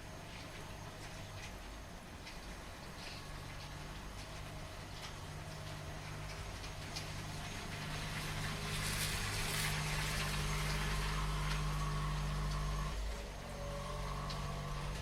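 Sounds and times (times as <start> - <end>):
low engine hum: 0.0 - 15.0
steady rain: 0.0 - 15.0
car tyres hissing on wet road: 2.9 - 15.0.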